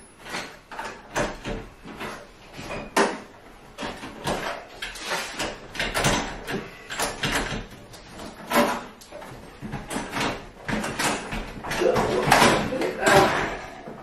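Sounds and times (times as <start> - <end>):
metal parts clunking and scraping: 0.1 - 14.0.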